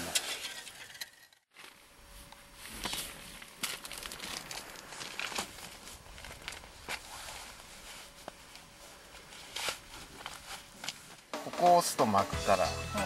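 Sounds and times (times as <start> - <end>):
crunches of snow and ice: 0.0 - 11.3.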